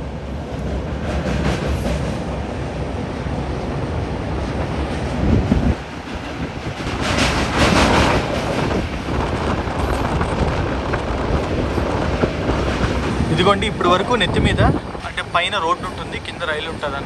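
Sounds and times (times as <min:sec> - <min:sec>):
train wheels rumbling on bridge: 0:00.0 - 0:17.0.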